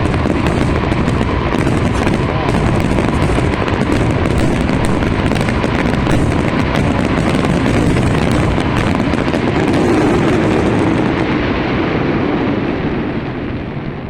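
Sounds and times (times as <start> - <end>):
fireworks booming and crackling: 0.0 - 14.0.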